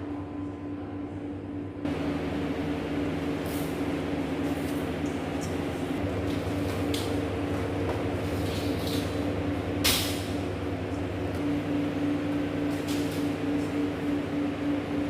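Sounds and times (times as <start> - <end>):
machine motor hum: 1.2 - 15.0.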